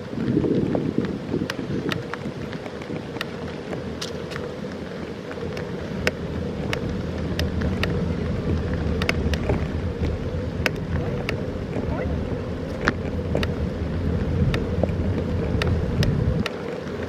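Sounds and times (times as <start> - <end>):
tyre rumble: 0.0 - 17.0
wind buffeting microphone: 0.0 - 17.0.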